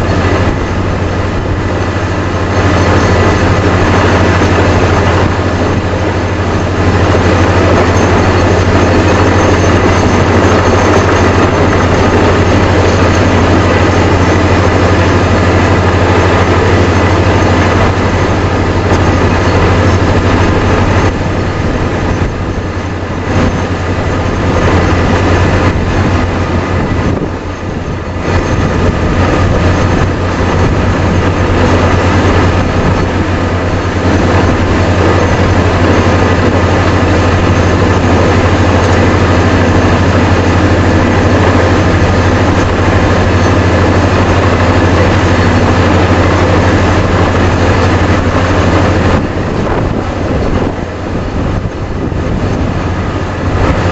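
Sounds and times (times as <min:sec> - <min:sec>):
heavy engine drone: 0:00.0 - 0:53.9.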